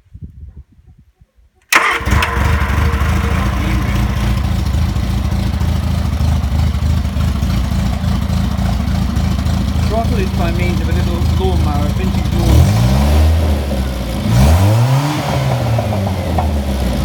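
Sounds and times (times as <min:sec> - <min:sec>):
car engine starting and running: 0:01.7 - 0:17.0.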